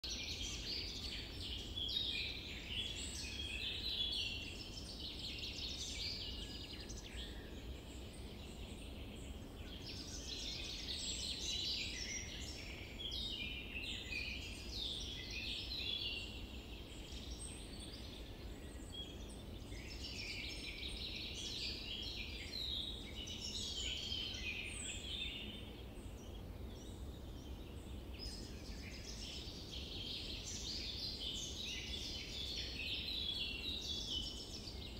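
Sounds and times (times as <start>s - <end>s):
small birds singing and chirping: 0.0s - 34.9s.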